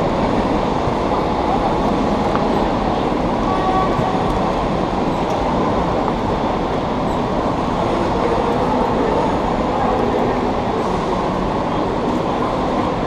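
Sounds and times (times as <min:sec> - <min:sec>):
loud rumbling and rushing noise: 0:00.0 - 0:13.0.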